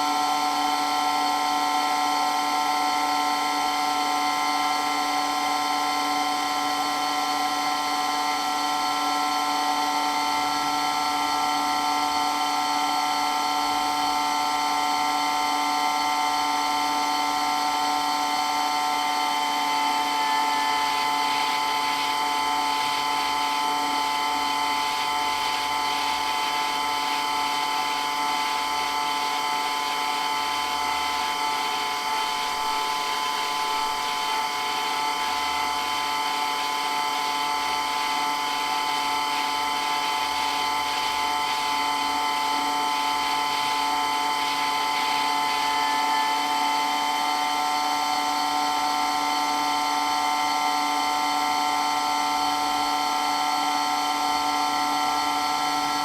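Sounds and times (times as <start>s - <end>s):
electric water pump whining: 0.0s - 56.0s.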